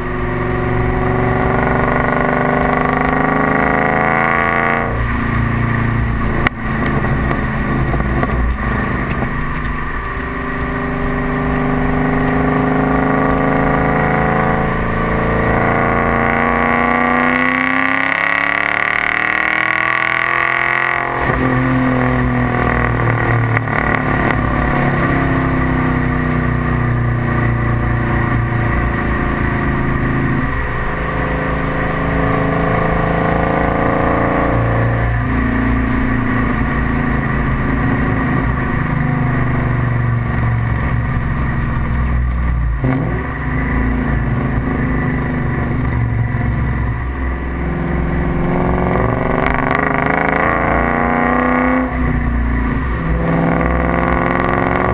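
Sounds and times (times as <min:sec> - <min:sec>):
car exhaust under acceleration: 0:00.0 - 0:54.9.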